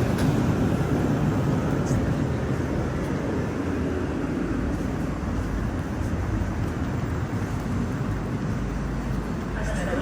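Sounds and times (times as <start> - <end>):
train wheels and motors rumbling: 0.0 - 10.0.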